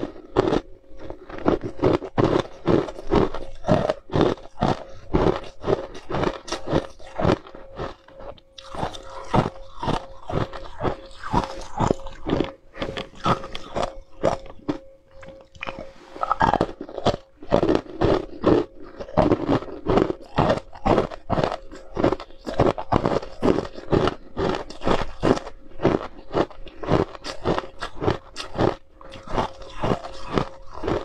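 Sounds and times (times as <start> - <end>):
ice being crunched and chewed: 0.0 - 31.0.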